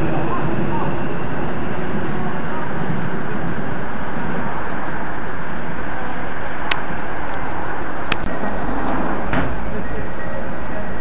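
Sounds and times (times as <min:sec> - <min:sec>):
underground train rumbling: 0:00.0 - 0:11.0.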